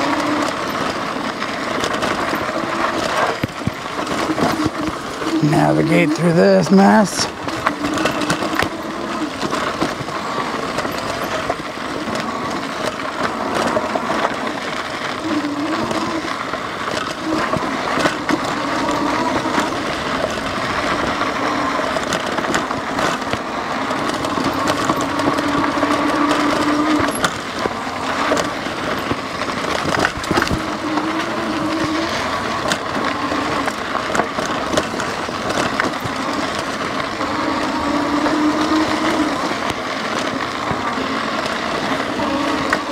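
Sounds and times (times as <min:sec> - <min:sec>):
electric motor whining: 0:00.0 - 0:42.9
tyres crunching on gravel: 0:00.0 - 0:42.9.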